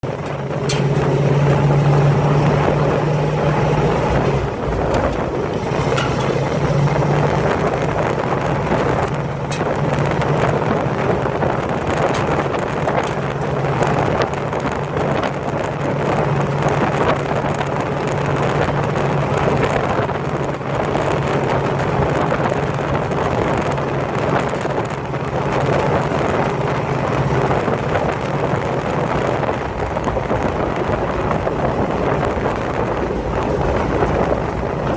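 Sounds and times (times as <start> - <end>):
car engine running: 0.0 - 34.9
wind noise on microphone: 0.0 - 34.9.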